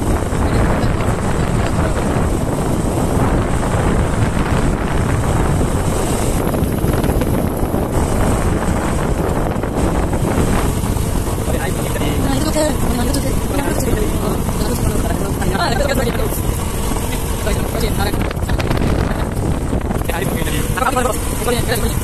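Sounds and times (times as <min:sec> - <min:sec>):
motorcycle engine: 0:00.0 - 0:22.0
road noise: 0:00.0 - 0:22.0
wind rushing over microphone: 0:00.0 - 0:22.0.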